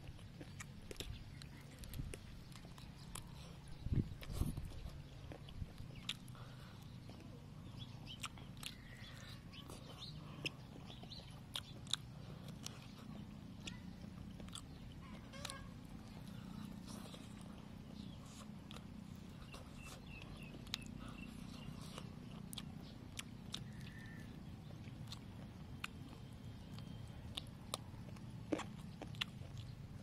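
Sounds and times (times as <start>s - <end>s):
chewing and lip smacks: 0.0s - 30.0s
steady low hum: 0.0s - 30.0s.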